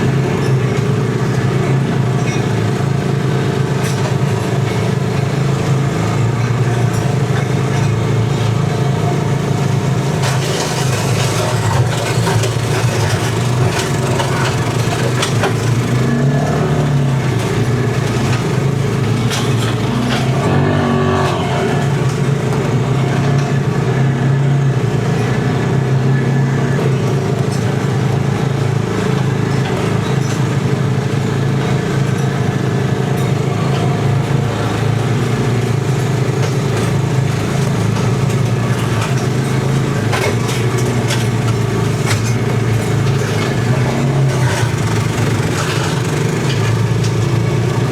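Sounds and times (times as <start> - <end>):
atv engine: 0.0 - 47.9
mower engine running: 0.0 - 47.9.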